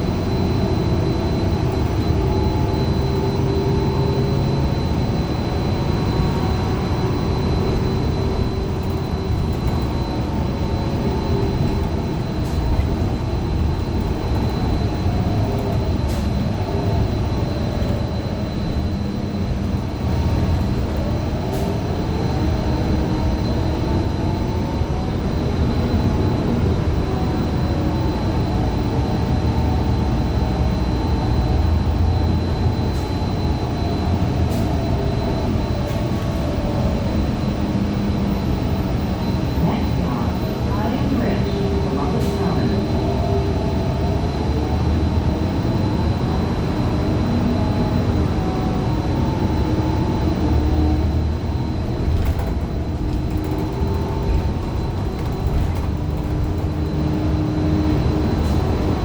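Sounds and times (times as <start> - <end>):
bus engine and transmission running: 0.0 - 59.0
faint high whine: 0.0 - 59.0
road rumble: 0.0 - 59.0.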